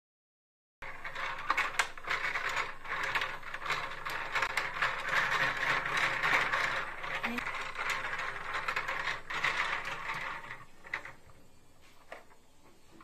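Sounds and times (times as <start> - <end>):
plastic rods sliding and twisting: 0.8 - 13.0.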